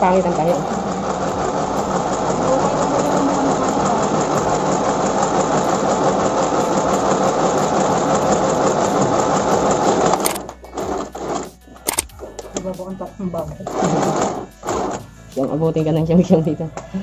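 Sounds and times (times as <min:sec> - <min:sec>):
electric sewing machine stitching: 0:00.0 - 0:12.2, 0:13.5 - 0:15.1.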